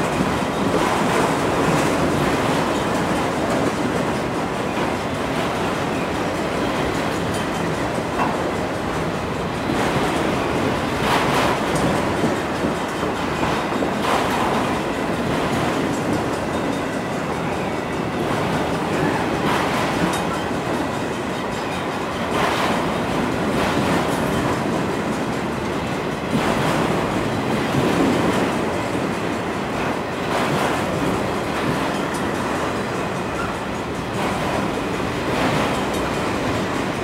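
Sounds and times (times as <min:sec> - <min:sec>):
click-clack over rail joints: 0:00.0 - 0:37.0
train wheels rumbling on rail: 0:00.0 - 0:37.0.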